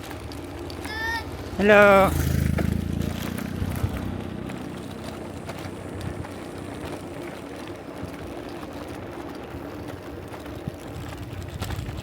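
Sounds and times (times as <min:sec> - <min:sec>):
road noise: 0:00.0 - 0:12.0
vehicle engine running: 0:00.2 - 0:12.0.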